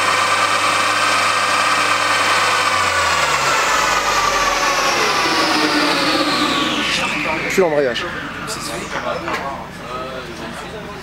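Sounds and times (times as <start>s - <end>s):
high-pitched mechanical whine: 0.0s - 11.0s.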